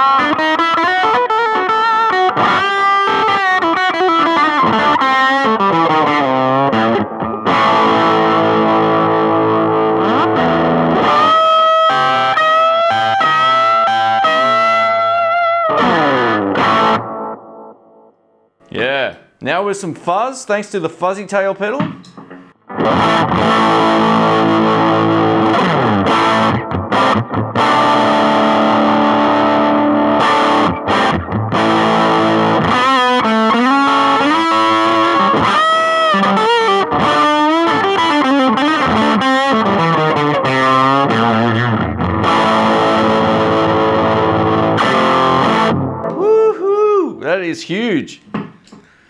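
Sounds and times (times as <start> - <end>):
fuzzy electric guitar: 0.0 - 18.8, 22.0 - 47.3.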